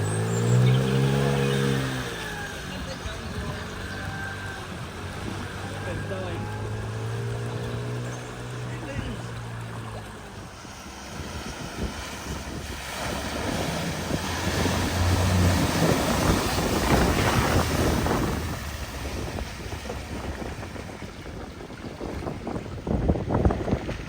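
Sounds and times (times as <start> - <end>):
faint engine: 0.0 - 24.0
vehicle splashing through water: 0.0 - 24.0.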